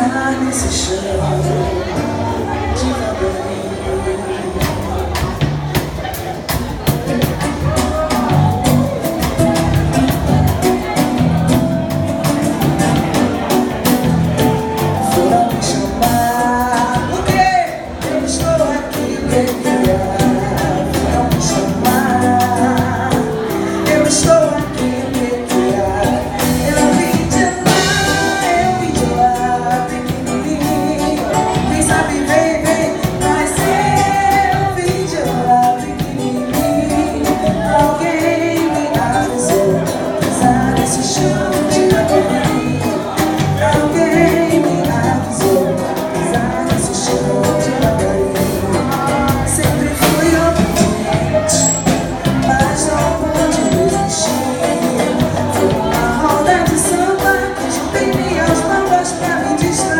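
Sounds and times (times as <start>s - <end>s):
person singing: 0.0s - 59.9s
instrumental accompaniment: 4.4s - 59.9s.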